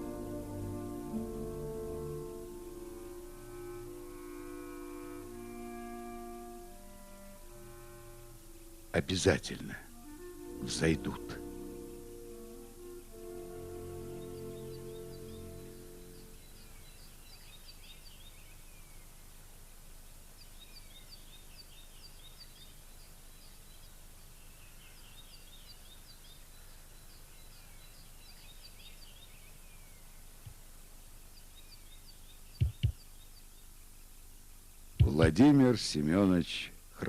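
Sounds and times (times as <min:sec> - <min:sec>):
faint outdoor background noise: 0:00.0 - 0:37.0
songbird chirping: 0:00.0 - 0:37.0.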